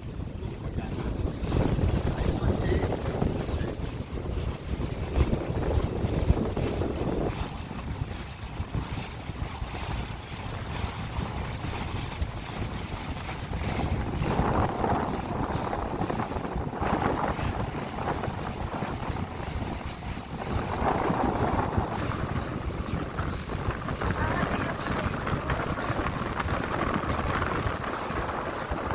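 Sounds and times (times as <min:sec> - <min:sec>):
water rushing: 0:00.0 - 0:28.9
wind buffeting microphone: 0:00.0 - 0:28.9.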